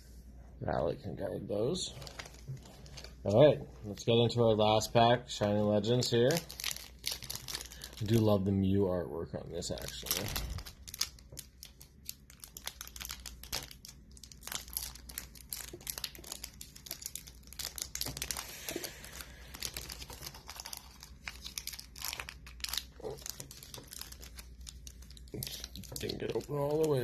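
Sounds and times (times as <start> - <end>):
foil wrapper crinkling and tearing: 2.0 - 4.2, 5.5 - 8.5, 9.6 - 27.0.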